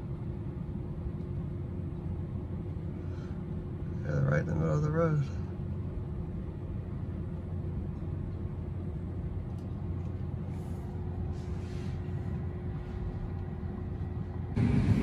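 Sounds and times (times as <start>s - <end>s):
faint steady hum: 0.0s - 15.0s
road and tyre rumble: 0.0s - 15.0s.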